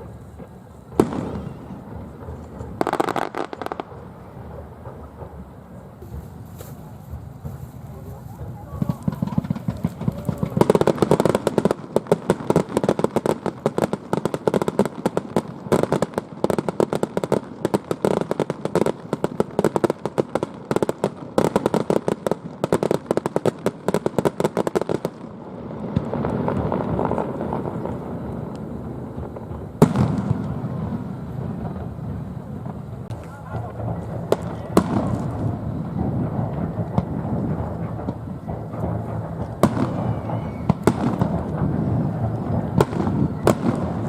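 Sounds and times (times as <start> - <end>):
fireworks crackling: 0.0 - 44.0
fireworks low rumble: 0.0 - 44.0.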